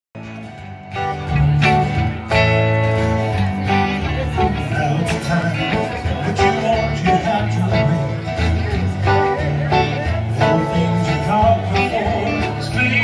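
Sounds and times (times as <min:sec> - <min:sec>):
acoustic guitars strummed: 0:00.2 - 0:13.0
electric keyboard: 0:00.2 - 0:13.0.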